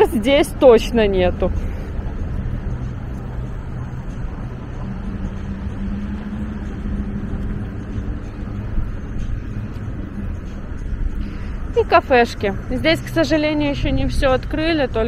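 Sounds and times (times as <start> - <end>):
low engine hum: 0.0 - 15.0
road traffic rumble: 0.0 - 15.0.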